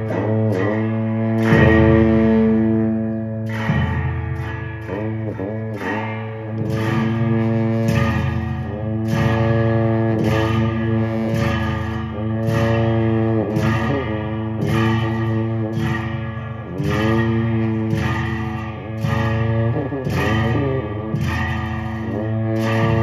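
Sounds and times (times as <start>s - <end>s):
long horns droning: 0.0s - 23.0s.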